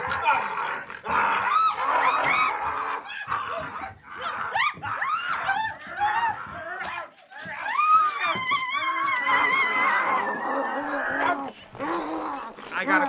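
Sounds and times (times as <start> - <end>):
dogs whining and yelping: 0.0 - 12.7.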